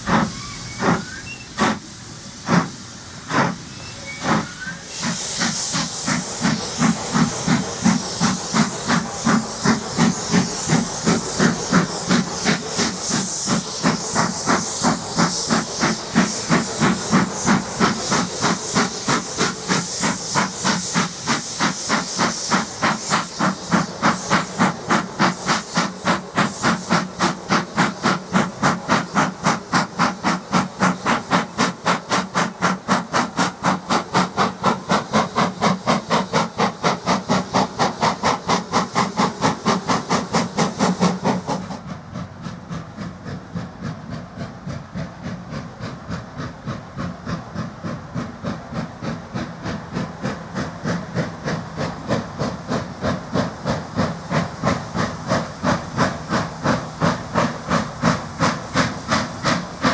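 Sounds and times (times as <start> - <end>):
hiss of escaping steam: 0.0 - 59.9
steam locomotive exhaust beats: 0.0 - 59.9.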